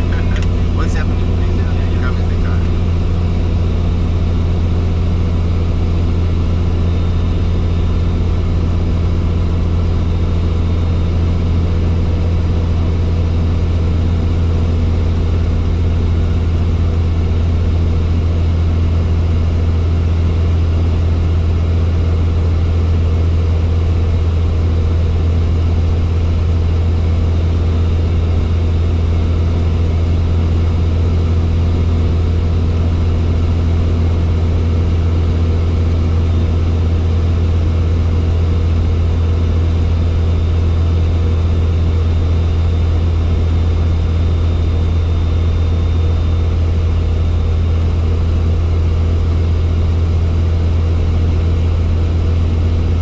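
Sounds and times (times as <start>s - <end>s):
helicopter engine and rotors droning: 0.0s - 53.0s.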